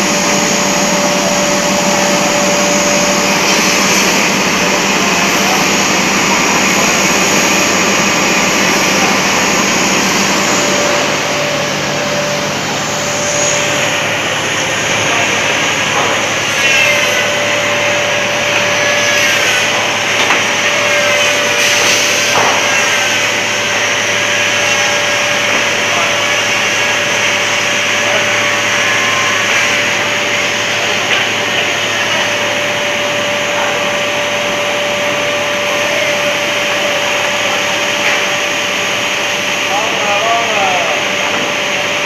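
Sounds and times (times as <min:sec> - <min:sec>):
laminating machine whirring hiss: 0:00.0 - 0:42.0
mid-pitched machine hum: 0:00.0 - 0:42.0.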